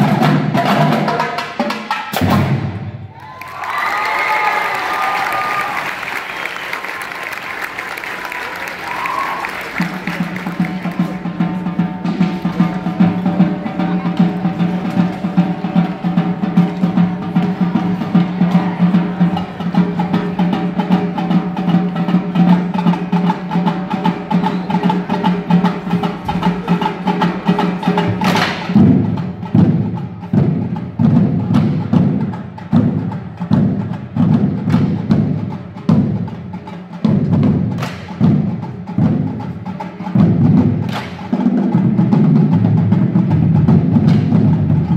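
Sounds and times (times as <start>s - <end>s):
marching drum line playing: 0.0s - 44.9s.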